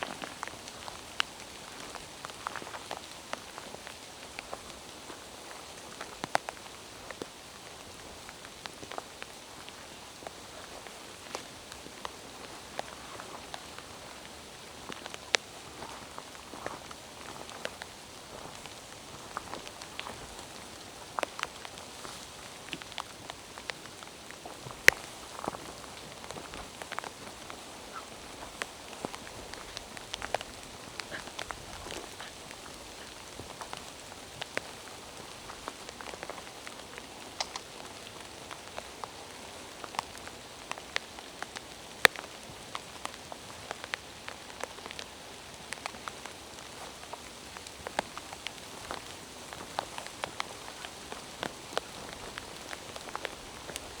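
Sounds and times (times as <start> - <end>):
sharp raindrops landing close: 0.0 - 54.0
steady hiss of rain: 0.0 - 54.0.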